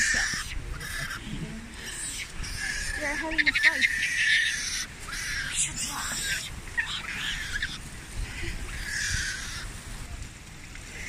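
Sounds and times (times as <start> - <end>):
monkeys screaming: 0.0 - 9.8.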